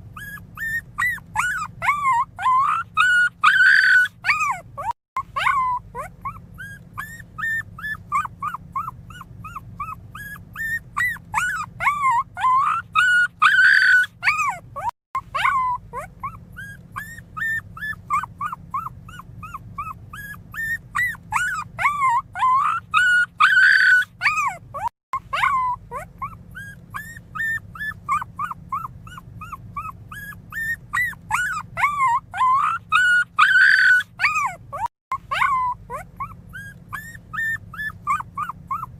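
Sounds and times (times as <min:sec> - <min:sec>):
puppy squealing cries: 0:00.0 - 0:38.9
puppy whimpering: 0:00.0 - 0:38.9.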